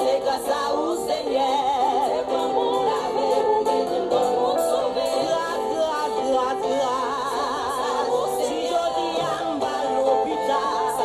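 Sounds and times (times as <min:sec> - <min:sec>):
choir singing with vibrato: 0:00.0 - 0:11.0.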